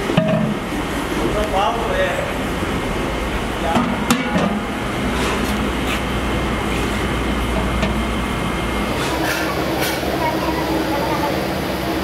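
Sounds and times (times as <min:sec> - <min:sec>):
workshop rumble with low hum: 0:00.0 - 0:12.0.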